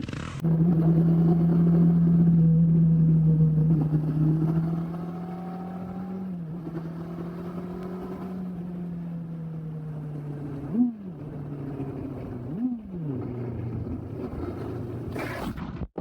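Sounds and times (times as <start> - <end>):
motorcycle engine running: 0.0 - 15.2.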